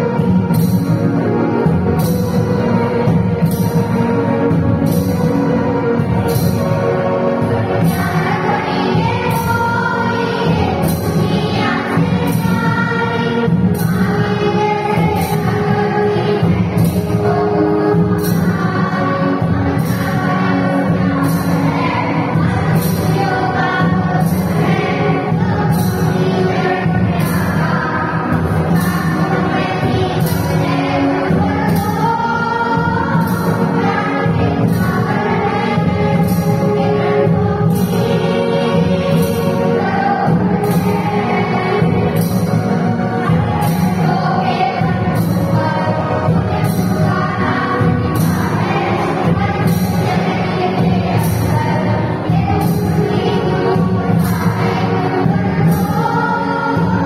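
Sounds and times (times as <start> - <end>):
children singing in unison: 0.0 - 57.0
hand drums: 0.0 - 57.0.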